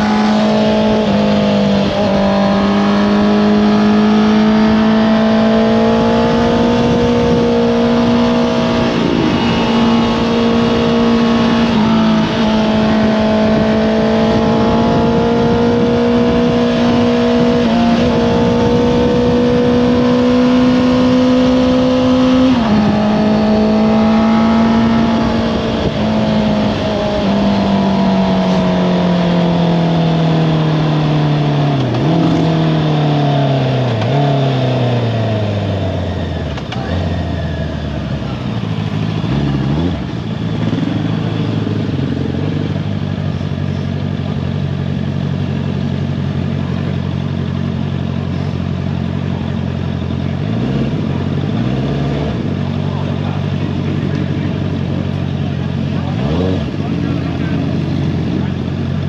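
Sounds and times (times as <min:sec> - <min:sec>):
motorcycle engine slowing and downshifting: 0:00.0 - 0:59.0.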